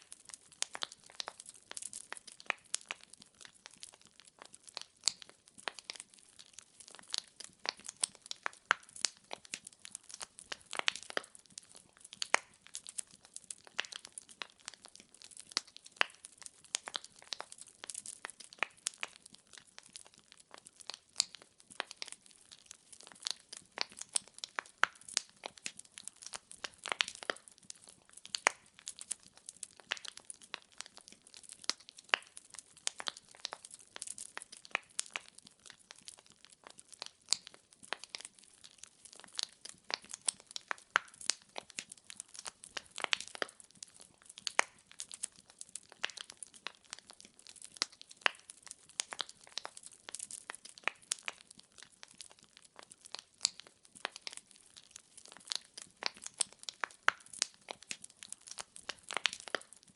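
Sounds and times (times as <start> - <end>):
firewood crackling: 0.0 - 59.9.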